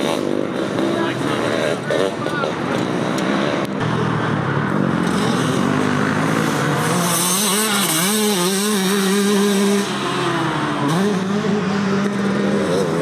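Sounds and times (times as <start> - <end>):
motocross bike engines: 0.0 - 13.0
motorbike engine revving: 0.0 - 13.0.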